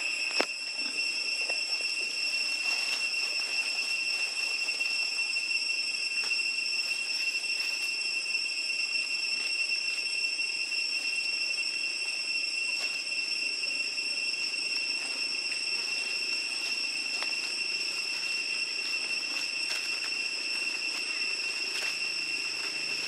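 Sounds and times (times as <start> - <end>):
insect chorus droning: 0.0 - 23.0.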